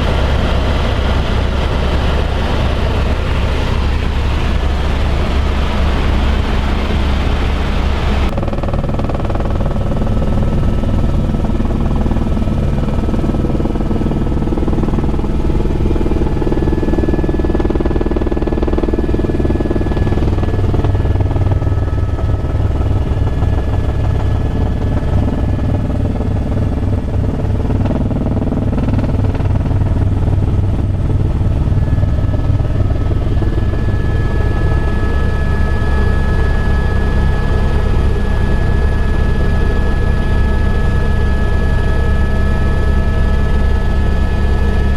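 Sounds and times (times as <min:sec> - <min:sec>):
helicopter rotor beat: 0:00.0 - 0:44.9.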